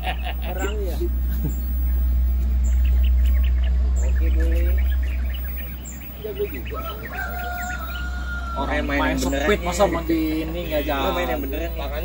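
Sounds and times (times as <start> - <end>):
low rumble: 0.0 - 10.6
small birds chirping: 0.0 - 12.0.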